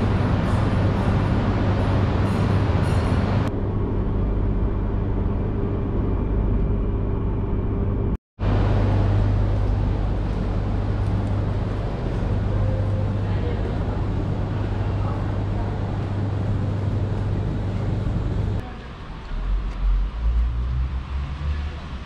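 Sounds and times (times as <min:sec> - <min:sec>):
low hum of stopped train: 0:00.0 - 0:22.0.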